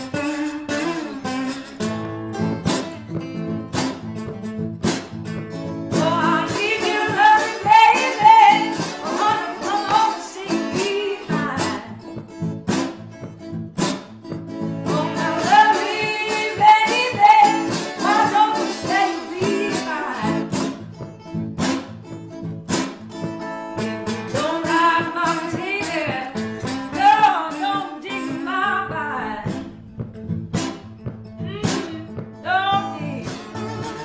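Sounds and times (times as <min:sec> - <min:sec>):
person singing blues: 0:00.0 - 0:12.8, 0:14.3 - 0:21.4, 0:23.4 - 0:34.0
acoustic guitar strummed and picked: 0:00.0 - 0:34.0.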